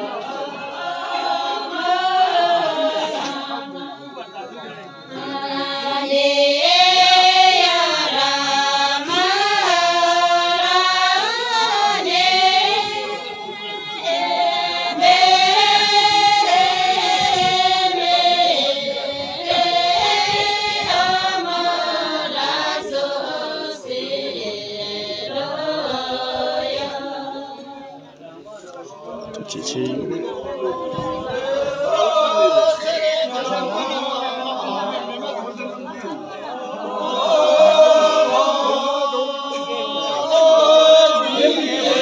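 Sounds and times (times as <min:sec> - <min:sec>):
voices singing slow melody: 0:00.0 - 0:42.0.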